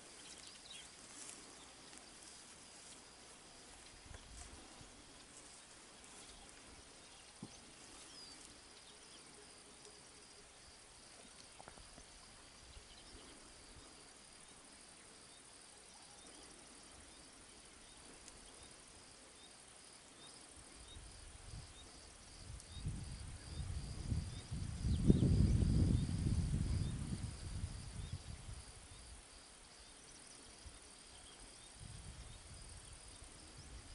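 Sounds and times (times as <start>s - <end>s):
insects chirping: 0.0s - 33.9s.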